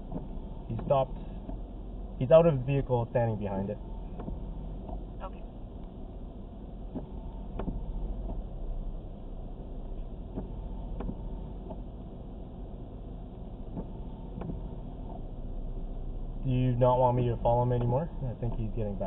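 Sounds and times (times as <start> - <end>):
car idling hum: 0.0 - 19.0.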